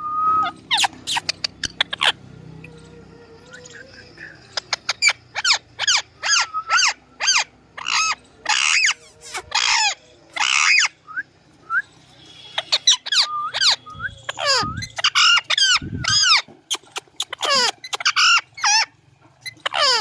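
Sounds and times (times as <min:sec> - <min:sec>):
small chirps: 0:00.4 - 0:06.9, 0:08.0 - 0:20.0
parrot squawking: 0:00.4 - 0:11.0, 0:12.4 - 0:20.0.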